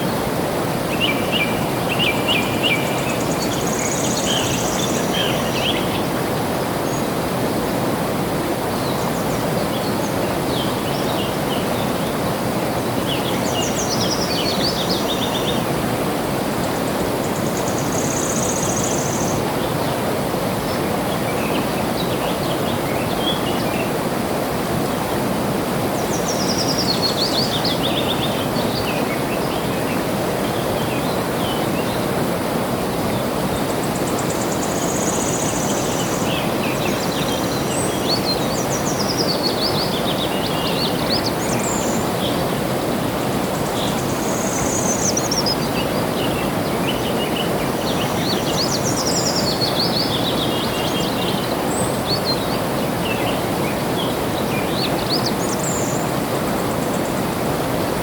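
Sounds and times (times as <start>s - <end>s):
small birds singing: 0.9s - 7.9s, 8.7s - 24.3s, 25.8s - 58.0s.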